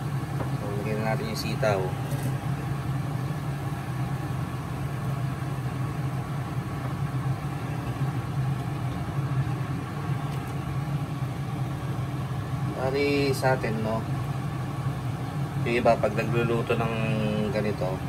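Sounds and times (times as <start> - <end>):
broth at a rolling boil: 0.0 - 18.0
low mechanical appliance hum: 0.0 - 18.0.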